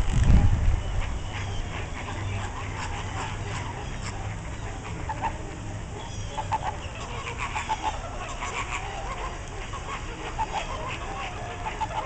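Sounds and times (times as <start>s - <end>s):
flamingos honking: 0.8s - 12.0s.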